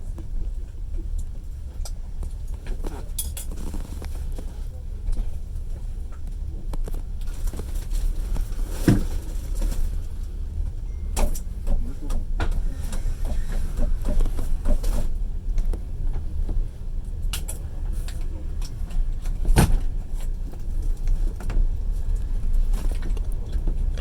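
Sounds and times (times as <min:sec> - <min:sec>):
train carriage rumble: 0:00.0 - 0:24.0.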